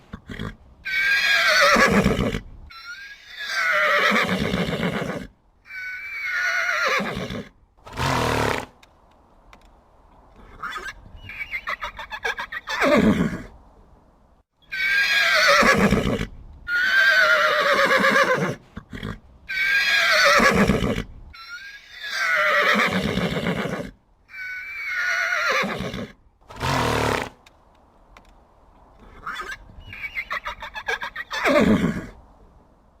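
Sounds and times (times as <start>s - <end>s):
horse whinnying: 0.1s - 8.7s, 10.4s - 13.5s, 14.7s - 27.4s, 29.0s - 32.2s.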